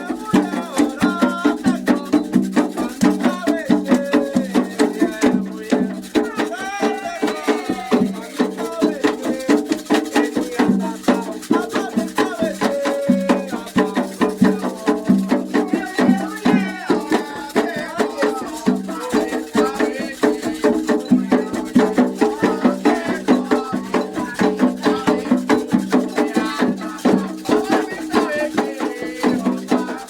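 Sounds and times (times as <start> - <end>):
drums and rattles beat: 0.0 - 30.0
person singing: 0.0 - 30.0.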